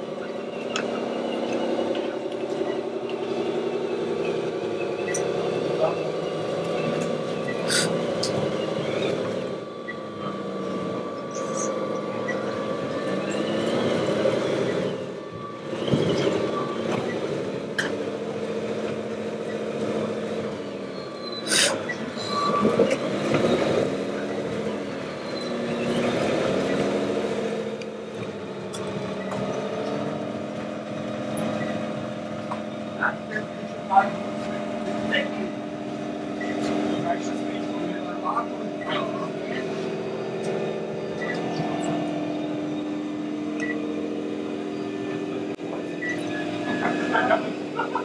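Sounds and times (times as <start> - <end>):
model truck engines revving: 0.0 - 48.0.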